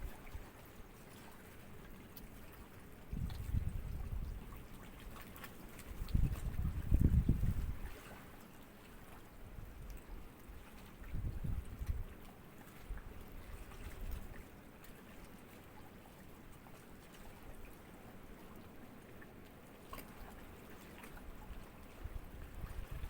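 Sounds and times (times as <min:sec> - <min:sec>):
small waves lapping: 0:00.0 - 0:23.0.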